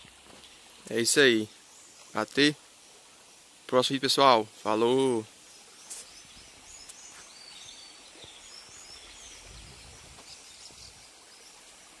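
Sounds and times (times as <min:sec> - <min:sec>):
small birds chirping: 0:00.4 - 0:03.9, 0:04.6 - 0:12.0.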